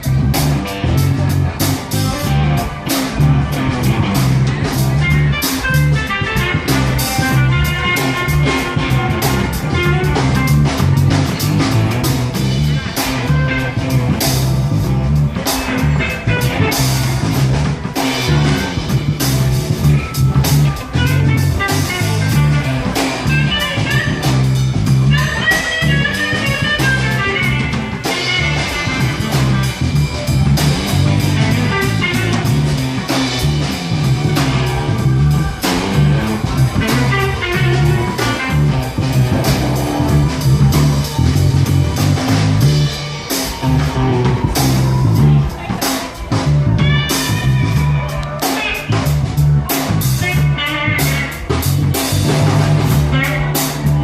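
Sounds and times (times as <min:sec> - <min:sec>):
bass guitar: 0:00.0 - 0:54.0
drums: 0:00.0 - 0:54.0
electric guitar: 0:00.0 - 0:54.0.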